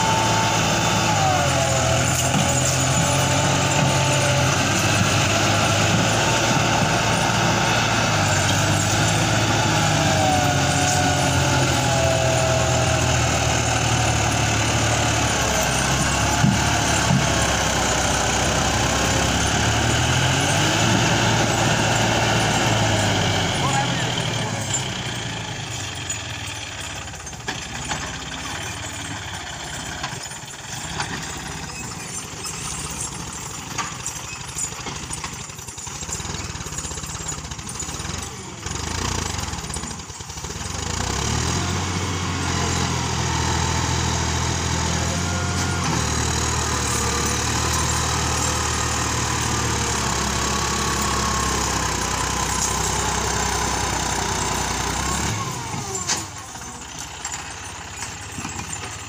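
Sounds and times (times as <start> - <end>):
tractor diesel engine labouring: 0.0 - 59.0.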